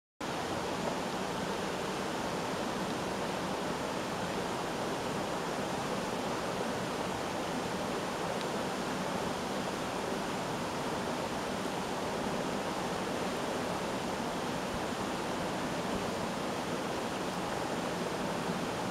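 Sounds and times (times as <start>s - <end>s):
flowing water: 0.2s - 18.9s.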